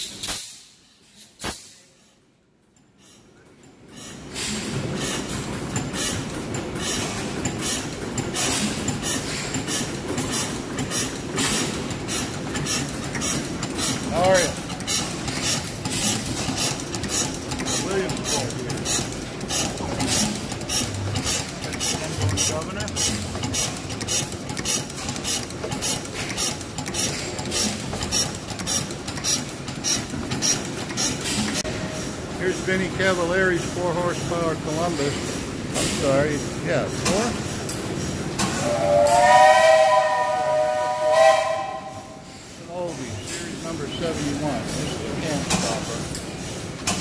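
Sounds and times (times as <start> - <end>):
stationary engine clacking: 3.4 - 38.8, 42.6 - 47.0.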